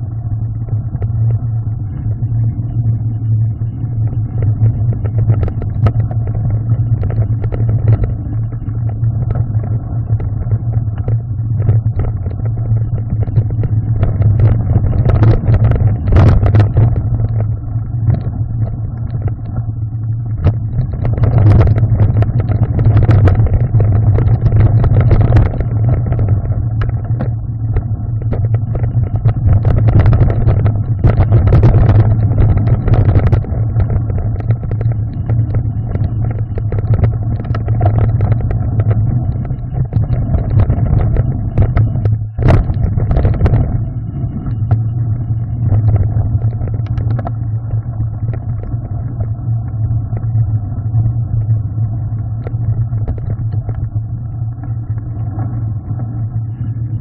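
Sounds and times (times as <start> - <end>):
bike rumbling over gravel: 0.0 - 57.0
bike clattering and rattling: 4.4 - 50.3.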